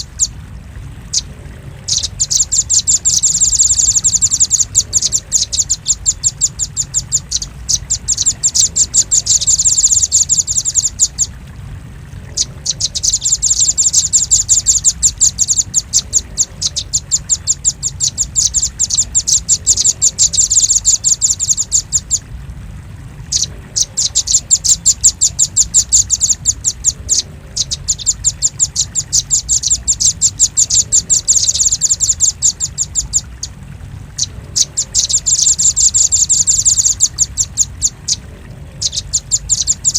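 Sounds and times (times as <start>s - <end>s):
bird chipping calls: 0.0s - 0.4s, 1.1s - 11.3s, 12.3s - 22.2s, 23.3s - 39.9s.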